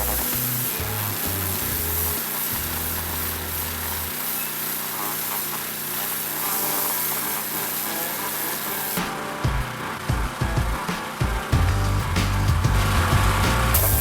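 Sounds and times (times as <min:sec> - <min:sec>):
pressure washer spraying: 0:00.0 - 0:14.0.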